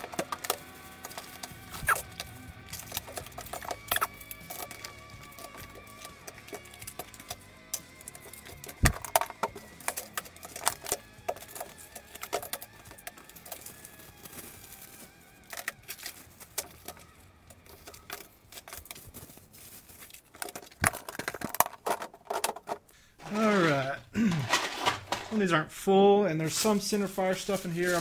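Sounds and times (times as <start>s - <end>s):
cartridges rattling in boxes: 0.0s - 25.5s, 26.6s - 28.0s.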